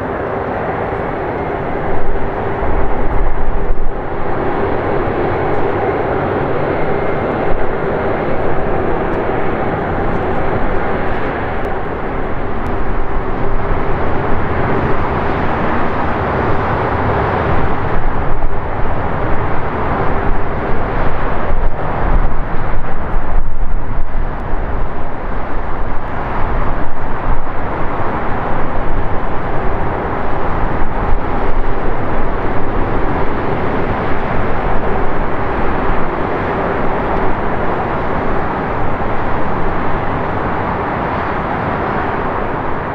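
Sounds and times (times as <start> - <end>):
jet engines idling: 0.0 - 42.9.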